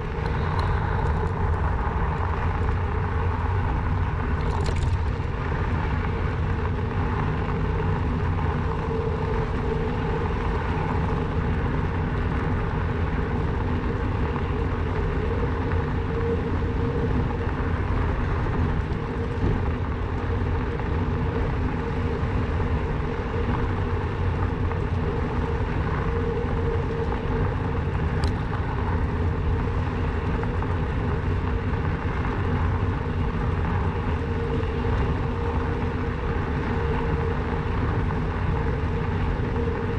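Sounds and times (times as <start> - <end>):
bike tyres rolling: 0.0 - 39.9
faint electric motor hum: 0.0 - 39.9
wind on the microphone: 0.0 - 39.9.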